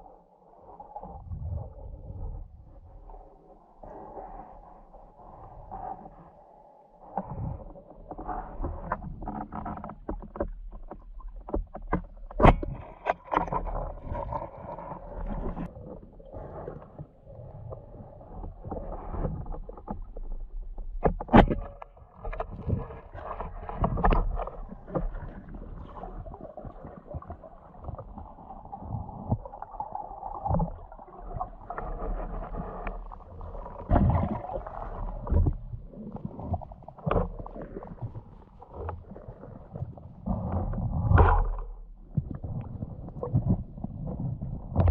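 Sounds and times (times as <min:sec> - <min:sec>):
muffled water sloshing: 0:00.0 - 0:44.9.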